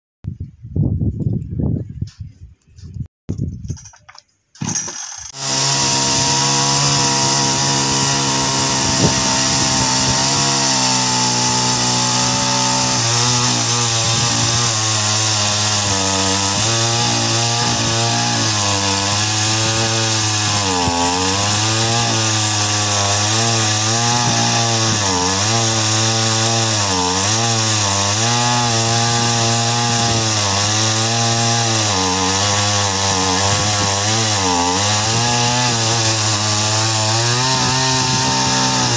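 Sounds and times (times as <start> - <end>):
chainsaw cutting log: 4.6 - 38.9.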